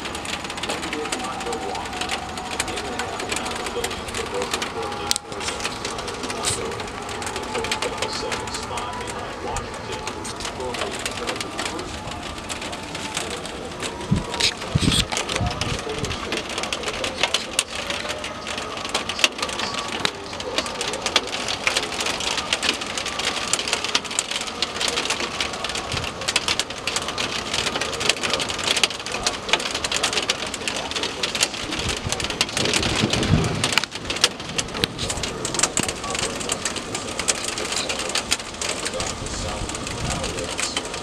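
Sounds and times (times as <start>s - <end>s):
rain falling: 0.0s - 41.0s
raindrops ticking on surfaces: 0.0s - 41.0s.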